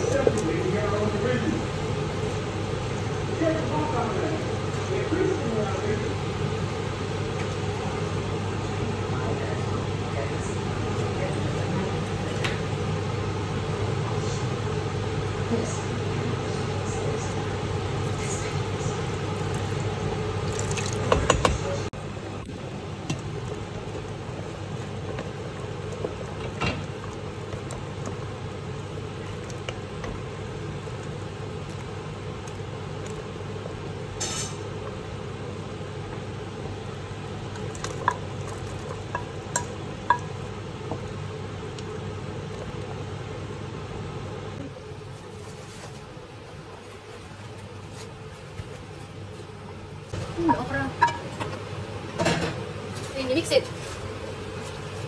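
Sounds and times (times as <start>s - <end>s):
pot simmering: 0.0s - 55.0s
steady low hum: 0.0s - 55.0s.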